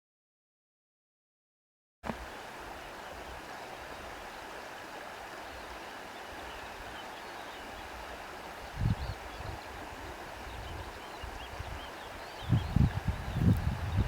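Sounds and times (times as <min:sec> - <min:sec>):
outdoor nature ambience rushing: 0:02.0 - 0:14.0.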